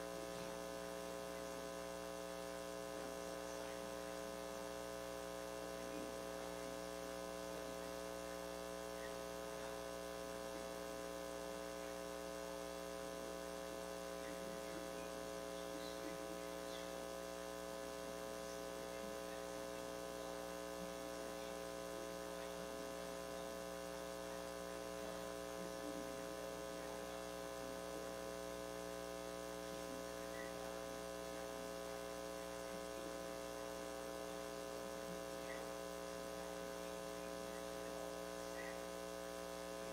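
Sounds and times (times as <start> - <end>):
electrical mains hum: 0.0 - 39.9
faint background hiss: 0.0 - 39.9.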